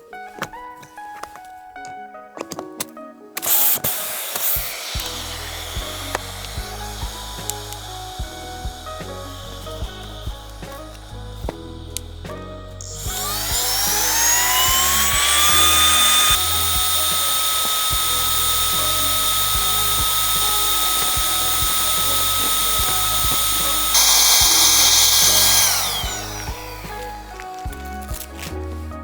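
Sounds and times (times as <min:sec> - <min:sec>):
small electric motor whining: 0:03.5 - 0:28.2.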